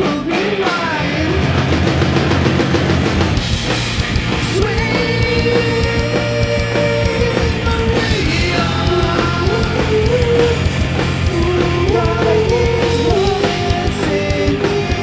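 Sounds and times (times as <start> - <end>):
drum kit: 0.0 - 15.0
heavy rock band playing: 0.0 - 15.0.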